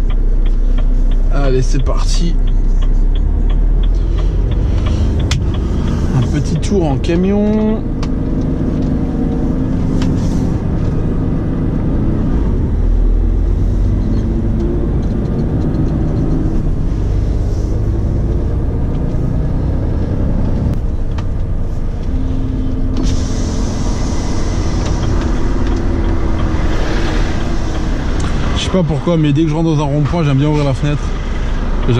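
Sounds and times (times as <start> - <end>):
road noise: 0.0 - 31.9
steady engine tone: 0.0 - 31.9
truck diesel engine drone: 0.0 - 31.9.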